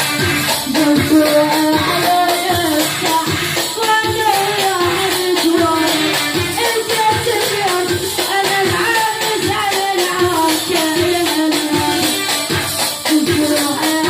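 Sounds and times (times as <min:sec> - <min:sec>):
hand percussion: 0:00.0 - 0:14.0
song with quick beat: 0:00.0 - 0:14.0.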